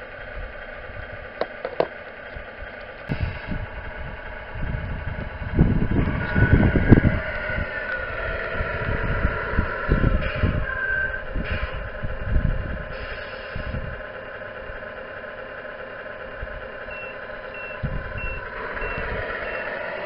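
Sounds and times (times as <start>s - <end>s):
low rumbling: 0.0s - 20.0s
model truck motor whine: 0.0s - 20.0s.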